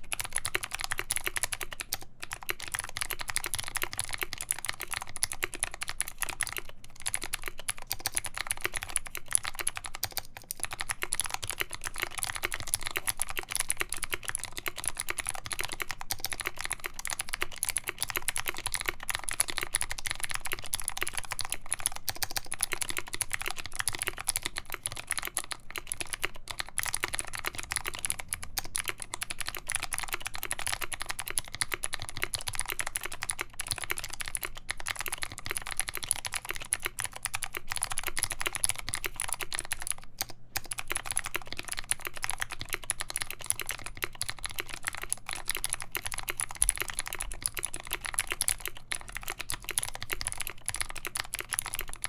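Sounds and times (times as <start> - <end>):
fast typing on clicky keyboard: 0.0 - 52.0.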